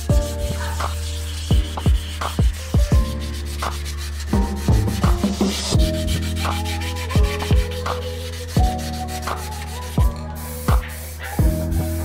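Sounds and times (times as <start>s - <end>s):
lo-fi hip-hop music: 0.0s - 12.0s
sandpaper rubbing on steel: 0.0s - 12.0s.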